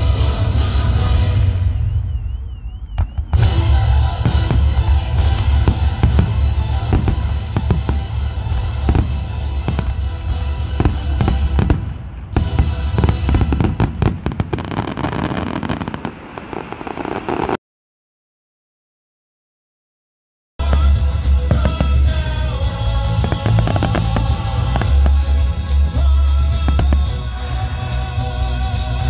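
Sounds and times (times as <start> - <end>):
music playing: 0.0 - 15.8, 20.6 - 29.0
fireworks bursting: 0.0 - 17.6, 20.6 - 29.0
fireworks crackling: 0.0 - 17.6, 20.6 - 29.0.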